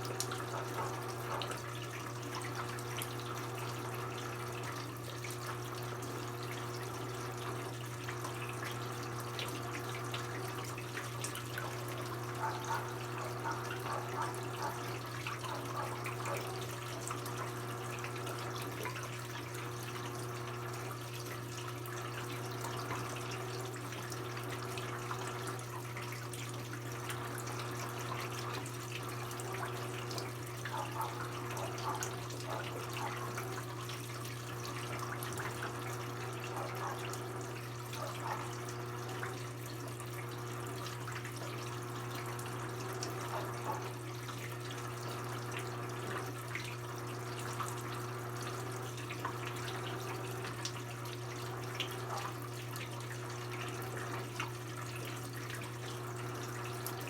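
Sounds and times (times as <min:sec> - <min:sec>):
washing machine low hum: 0:00.0 - 0:57.0
water splashing in washing machine: 0:00.0 - 0:57.0.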